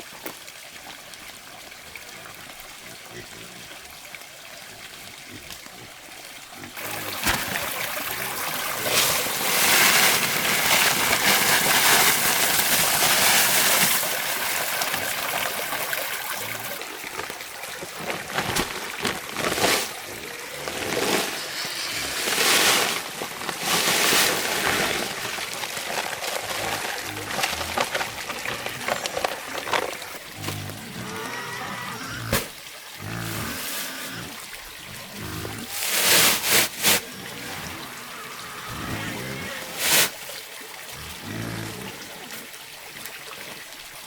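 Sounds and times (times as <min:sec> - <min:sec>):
water splashing and trickling: 0:00.0 - 0:44.0.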